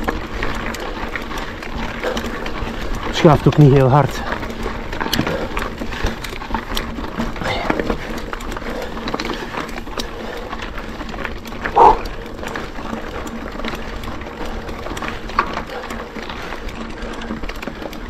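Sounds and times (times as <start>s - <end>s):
bike rattles and clicks: 0.0s - 18.0s
bike tyre and riding noise: 0.0s - 18.0s.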